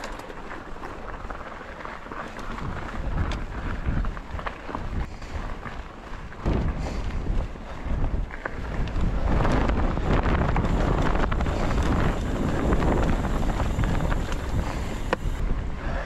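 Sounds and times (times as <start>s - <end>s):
bike clicks and knocks: 0.0s - 15.4s
tyres rolling over rocky trail: 0.0s - 15.8s
wind buffeting microphone: 2.4s - 16.0s.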